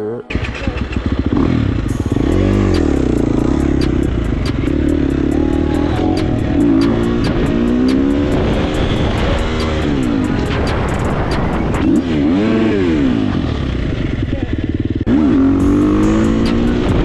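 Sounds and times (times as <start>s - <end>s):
dirt bike engine revving: 0.3s - 17.0s.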